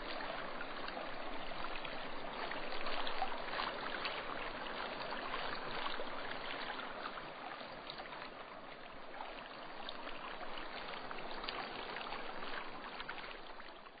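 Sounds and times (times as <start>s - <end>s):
flowing stream: 0.0s - 14.0s.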